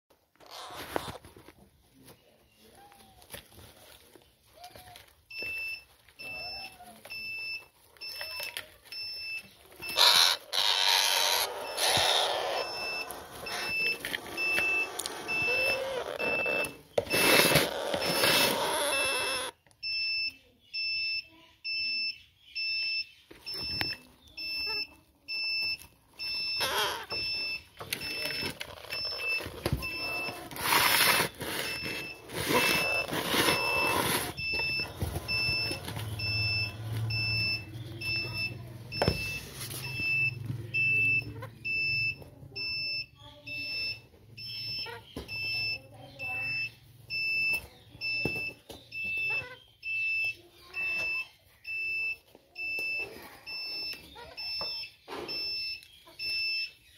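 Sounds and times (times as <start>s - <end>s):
high electronic beeps: 5.3s - 56.9s.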